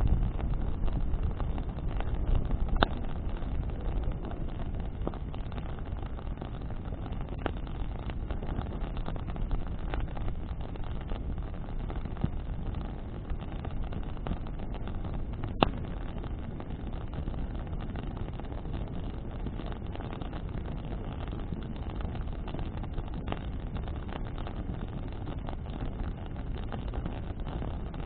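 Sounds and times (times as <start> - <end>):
burning wood crackle-pop: 0.0 - 28.0
flames and wind rushing: 0.0 - 28.0.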